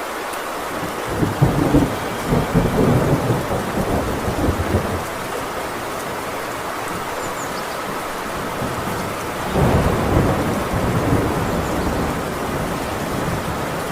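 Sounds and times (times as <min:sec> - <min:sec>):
heavy rain: 0:00.0 - 0:13.9
thunder rumbling: 0:00.7 - 0:13.9.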